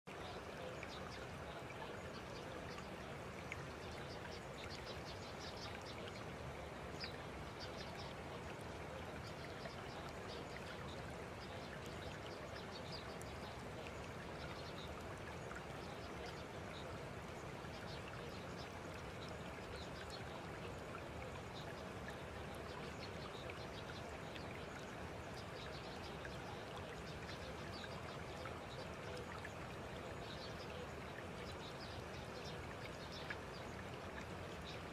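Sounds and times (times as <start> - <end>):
rushing water-like noise: 0.1 - 34.9.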